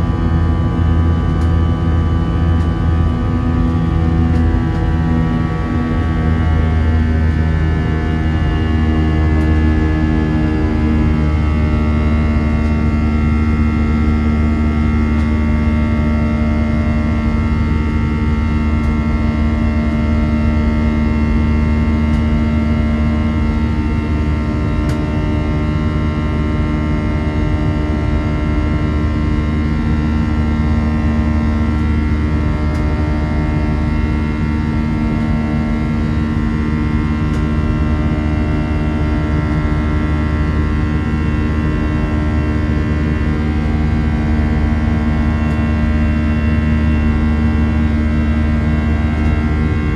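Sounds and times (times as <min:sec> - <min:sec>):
jet engine drone in cabin: 0:00.0 - 0:49.9.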